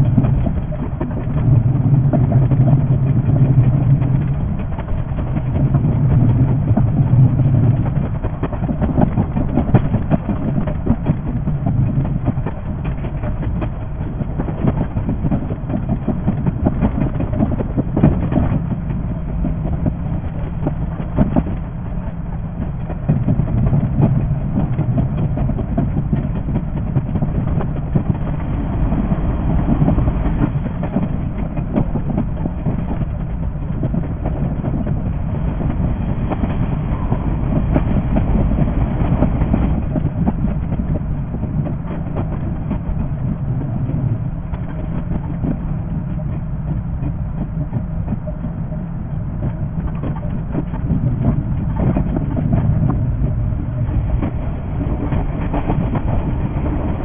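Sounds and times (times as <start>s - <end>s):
low hum: 0.0s - 57.0s
train rumbling: 0.0s - 57.0s
wheels clicking on rails: 0.0s - 57.0s.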